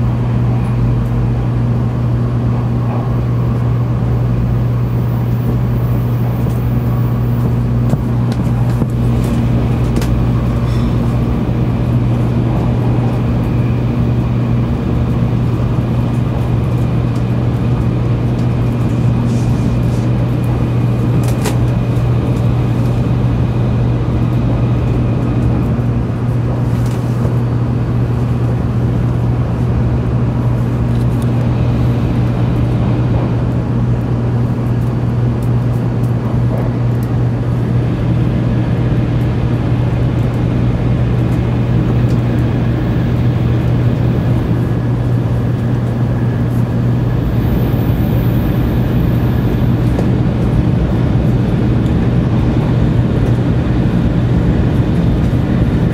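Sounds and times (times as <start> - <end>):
train cabin rumble and hum: 0.0 - 55.9.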